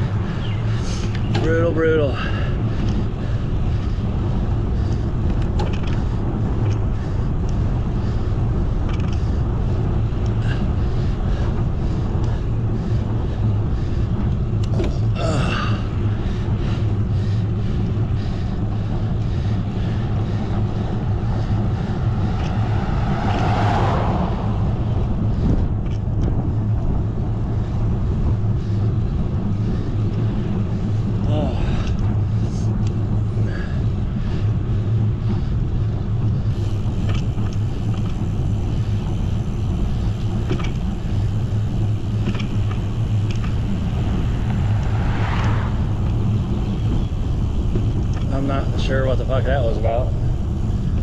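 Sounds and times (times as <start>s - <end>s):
road noise: 0.0s - 51.0s
wind rushing over microphone: 0.0s - 51.0s.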